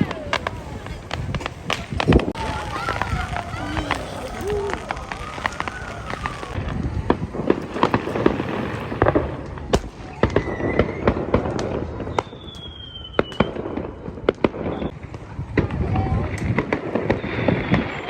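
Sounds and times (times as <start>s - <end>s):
fireworks and firecrackers banging: 0.0s - 18.0s
whistling rockets: 0.0s - 18.0s.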